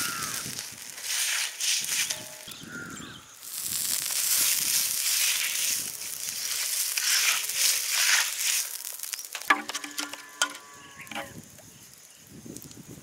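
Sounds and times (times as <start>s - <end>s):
omelette sizzling in a pan: 0.0s - 13.0s.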